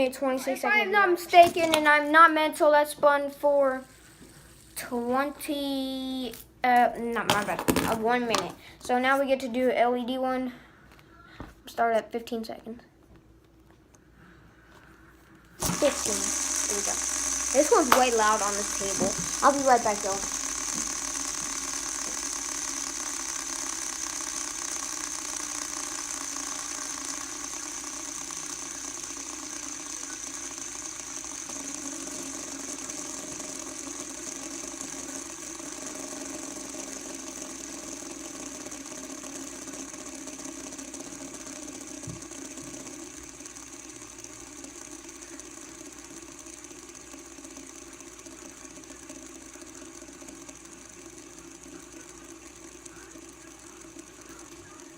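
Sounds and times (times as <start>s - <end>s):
fidget spinner whirring on table: 0.0s - 11.1s, 13.8s - 54.9s.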